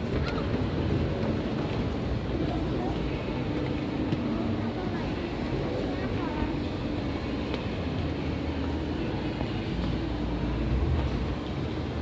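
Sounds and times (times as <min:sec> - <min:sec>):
shopping mall ambience: 0:00.0 - 0:12.0.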